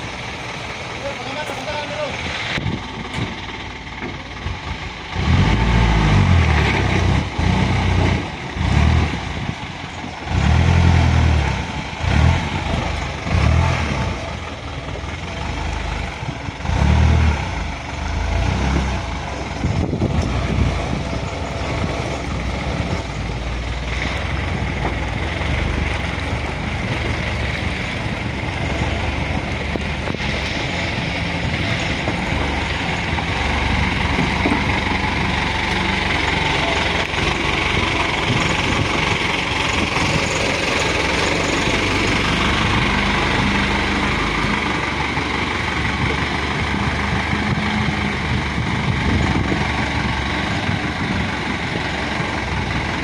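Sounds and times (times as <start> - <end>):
diesel truck engine running: 0.0 - 53.0.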